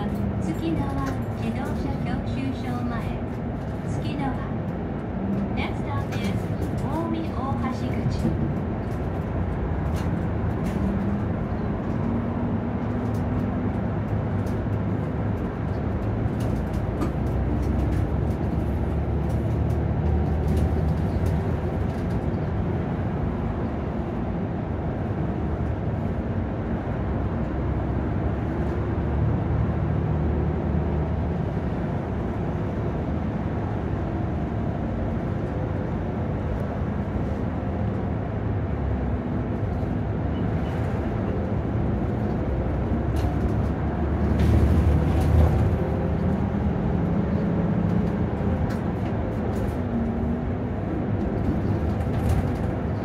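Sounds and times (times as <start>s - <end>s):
bus diesel engine drone: 0.0s - 53.0s
road rumble: 0.0s - 53.0s.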